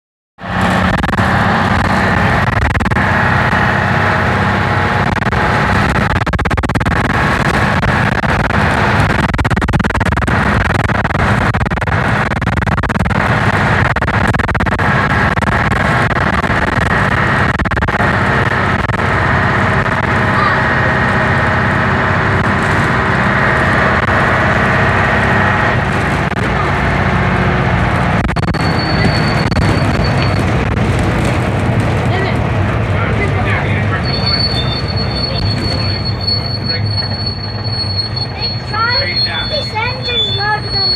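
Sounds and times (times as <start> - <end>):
bus engine droning: 0.4 - 40.9.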